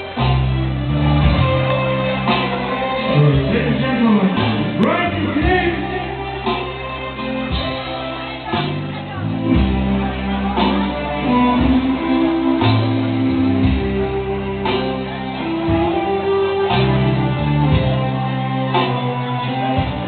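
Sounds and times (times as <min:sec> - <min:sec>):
music with held notes and bass: 0:00.0 - 0:20.0
slow steady beat: 0:00.0 - 0:20.0.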